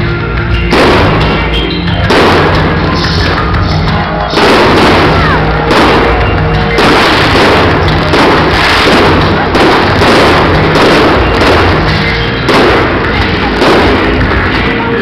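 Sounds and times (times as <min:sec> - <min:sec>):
fireworks booming and crackling: 0:00.0 - 0:15.0
music: 0:00.0 - 0:15.0.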